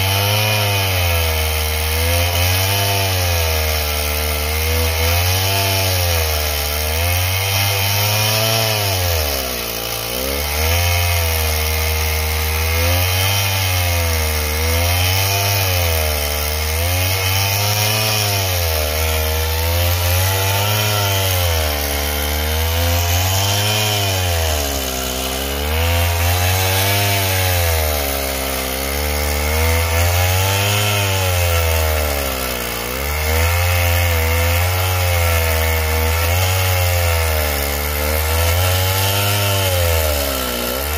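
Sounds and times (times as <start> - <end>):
chainsaw cutting tree trunk: 0.0 - 40.9.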